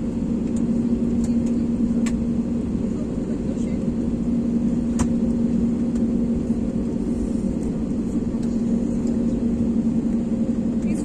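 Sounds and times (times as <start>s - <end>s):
jet engines droning at idle: 0.0s - 11.0s.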